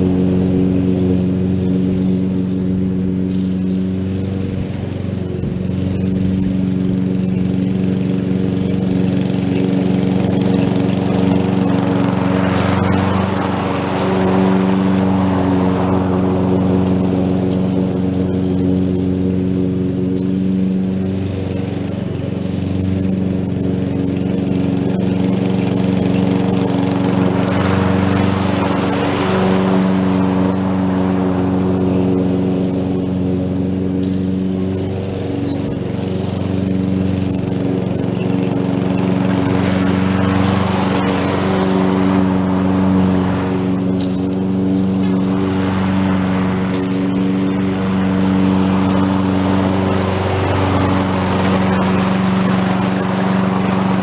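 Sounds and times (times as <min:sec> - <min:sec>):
lawn mower engine running: 0:00.0 - 0:54.0
rushing noise of mowing: 0:00.0 - 0:54.0.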